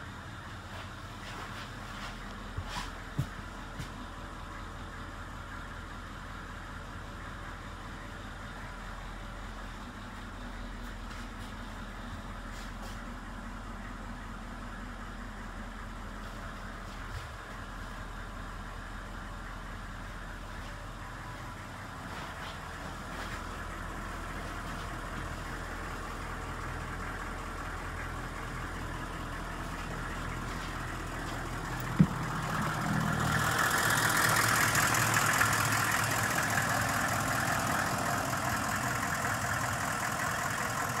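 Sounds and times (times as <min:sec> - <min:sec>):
bus engine idling: 0:00.0 - 0:41.0.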